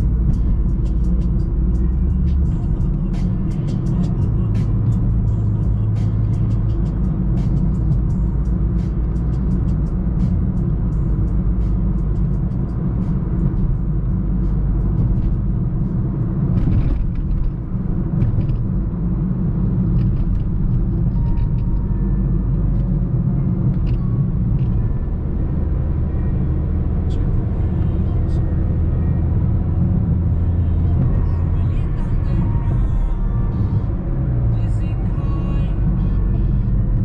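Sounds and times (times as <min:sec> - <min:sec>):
car cabin engine and road rumble: 0:00.0 - 0:37.0.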